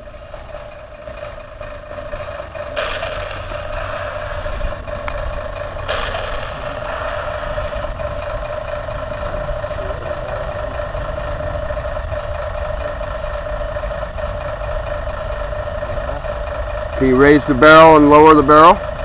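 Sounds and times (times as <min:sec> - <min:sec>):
model tank mechanical drone: 0:00.0 - 0:19.0.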